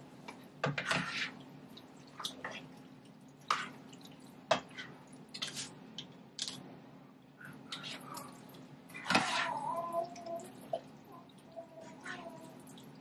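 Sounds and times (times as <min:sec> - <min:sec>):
vegetables squishing in a pot: 0:00.0 - 0:06.7, 0:07.3 - 0:13.0.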